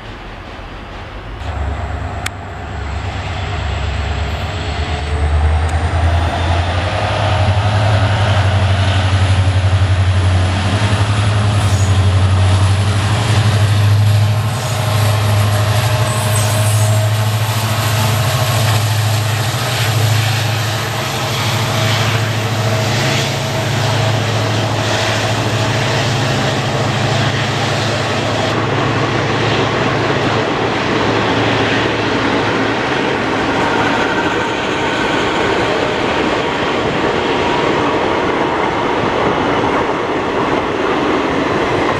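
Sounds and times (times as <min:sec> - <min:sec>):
diesel locomotive engine humming: 0:00.0 - 0:41.9
train coaches rolling: 0:00.0 - 0:41.9.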